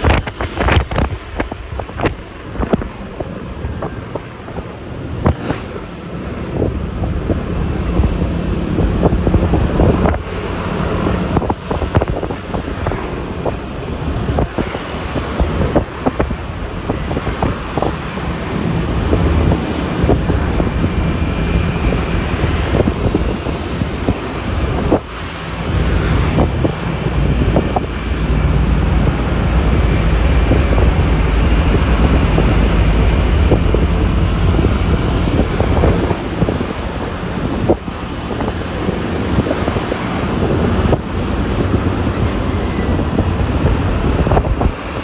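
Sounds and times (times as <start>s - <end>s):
road and traffic noise: 0.0s - 45.0s
wind gusts popping microphone: 0.0s - 45.0s
wind noise on microphone: 0.0s - 45.0s.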